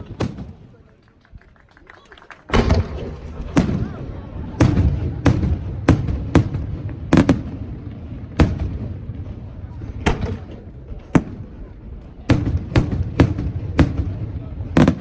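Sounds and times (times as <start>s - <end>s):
fireworks bangs: 0.0s - 0.9s, 2.3s - 15.0s
low rolling rumble: 2.5s - 15.0s.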